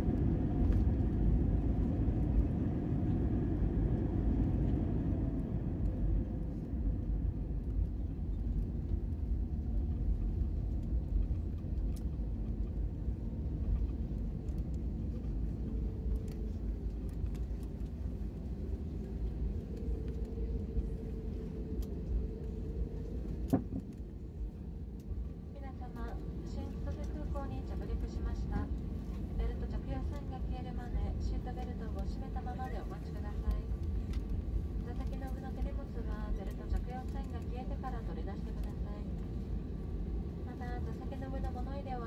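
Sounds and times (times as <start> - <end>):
aircraft cabin rumble: 0.0 - 42.0.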